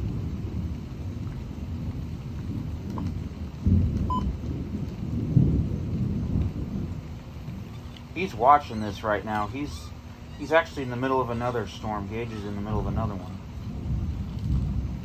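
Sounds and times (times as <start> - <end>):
hail falling: 0.0 - 15.0
steady rain: 0.0 - 15.0
thunder rumbling: 0.0 - 15.0.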